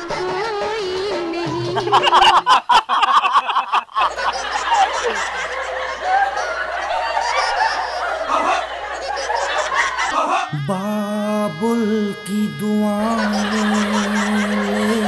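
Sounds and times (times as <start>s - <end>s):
exaggerated sobbing and wailing: 0.0s - 15.0s.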